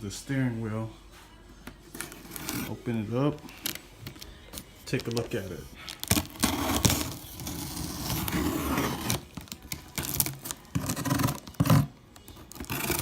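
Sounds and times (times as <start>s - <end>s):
packaging rustles and scrapes: 1.9s - 13.0s
wrapping crinkling and tearing: 1.9s - 13.0s.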